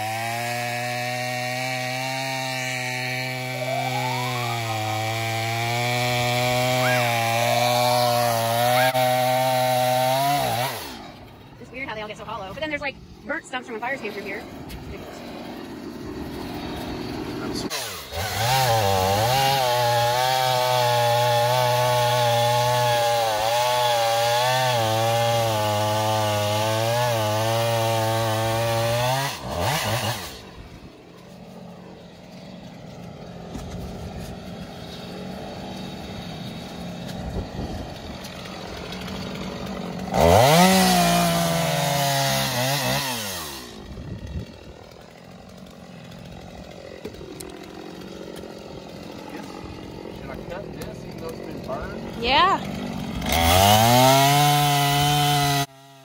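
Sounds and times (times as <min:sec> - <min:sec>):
chainsaw cutting and idling: 0:00.0 - 0:56.0.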